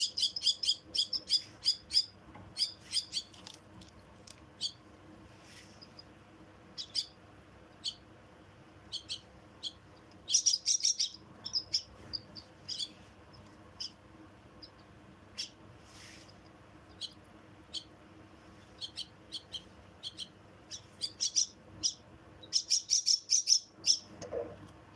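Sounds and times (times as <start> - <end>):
bird chicks begging chirps: 0.0 - 3.5, 4.5 - 4.9, 5.7 - 8.2, 8.8 - 15.6, 16.2 - 18.0, 18.6 - 24.2.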